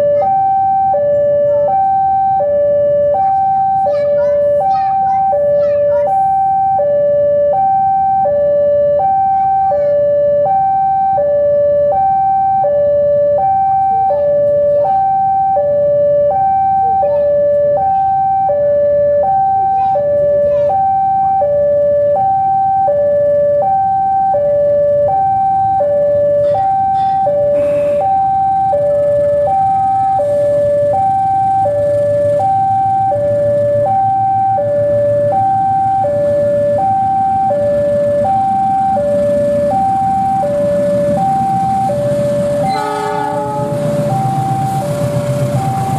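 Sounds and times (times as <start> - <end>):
two-tone crossing alarm: 0.0 - 45.9.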